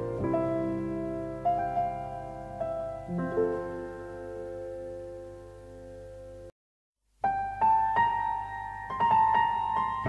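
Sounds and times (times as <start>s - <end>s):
slow piano music: 0.0s - 6.5s, 7.2s - 10.0s.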